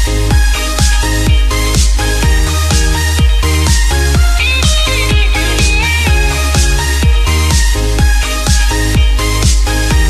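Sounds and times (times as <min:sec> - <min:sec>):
electronic dance music: 0:00.0 - 0:10.0
kick drum beat: 0:00.0 - 0:10.0
synth chords: 0:00.0 - 0:10.0.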